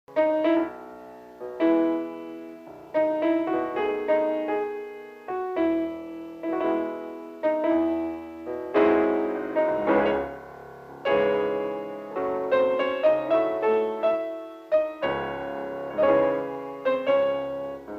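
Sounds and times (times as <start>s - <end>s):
solo piano music: 0.1s - 17.9s.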